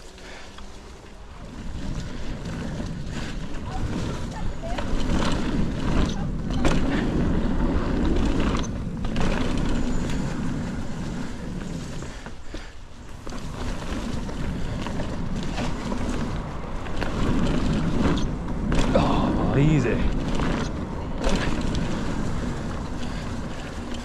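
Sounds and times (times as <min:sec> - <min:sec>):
low rumble from bike ride: 0:00.0 - 0:24.0.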